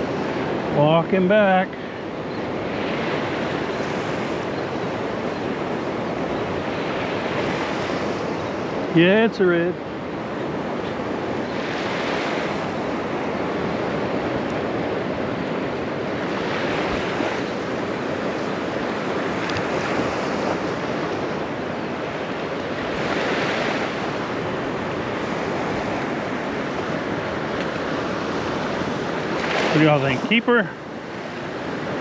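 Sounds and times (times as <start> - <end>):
surf breaking on sandy beach: 0.0 - 32.0.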